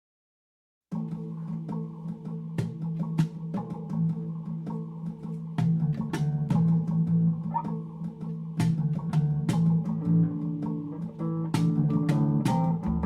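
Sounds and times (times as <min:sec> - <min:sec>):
guitar: 0:00.9 - 0:13.0
percussion beat: 0:01.7 - 0:13.0.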